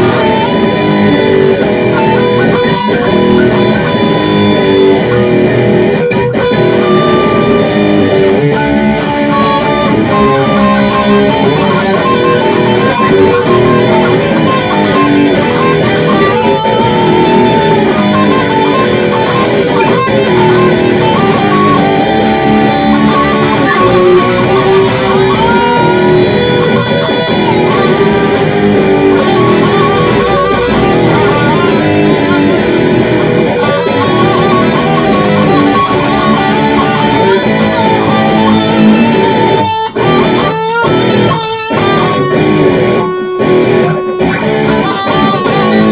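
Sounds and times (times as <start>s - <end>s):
electric guitar playing hard rock: 0.0s - 45.9s.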